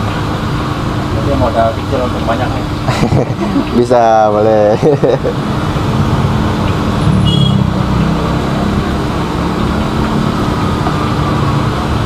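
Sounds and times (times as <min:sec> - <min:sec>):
gas burner flame: 0:00.0 - 0:12.0
oil bubbling in deep frying: 0:00.0 - 0:12.0.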